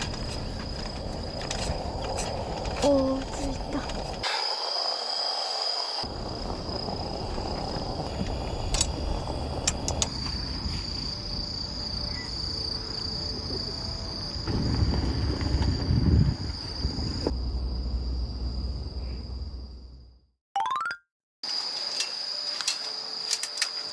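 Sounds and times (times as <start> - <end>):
insects trilling: 0.0 - 19.9, 21.4 - 23.9.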